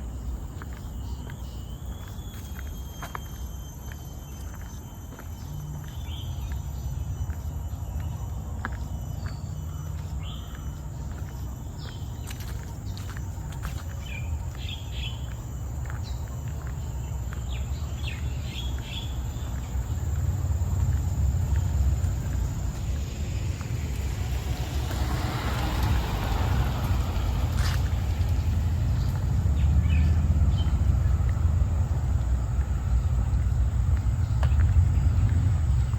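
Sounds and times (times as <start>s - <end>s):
small birds chirping: 0.0s - 25.0s, 25.7s - 35.9s
high insect drone: 0.0s - 35.9s
low rumble: 0.0s - 35.9s.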